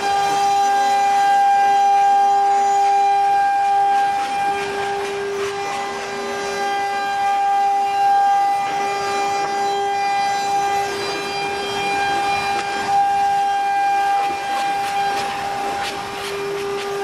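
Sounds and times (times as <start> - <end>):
router spindle high whine: 0.0 - 17.0
rushing noise of cutting: 0.0 - 17.0.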